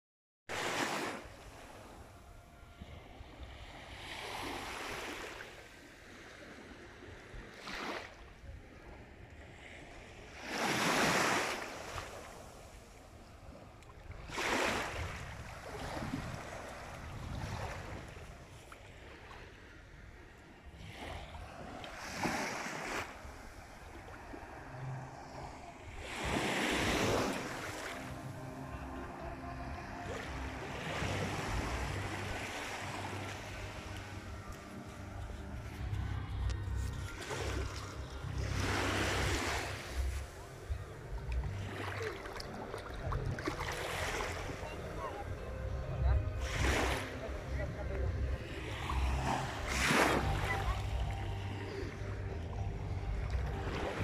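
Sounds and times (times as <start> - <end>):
small waves washing on shore: 0.5 - 45.6, 46.3 - 52.6.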